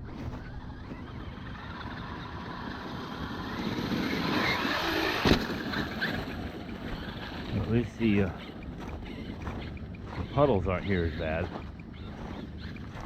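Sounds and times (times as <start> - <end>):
rc truck tyre and drivetrain noise: 0.0 - 13.0.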